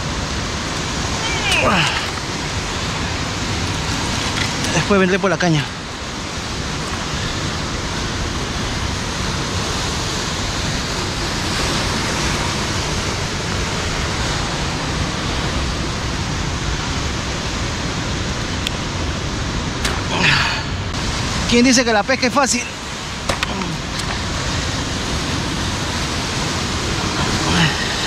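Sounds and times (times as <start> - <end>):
steady rushing noise: 0.0 - 28.0.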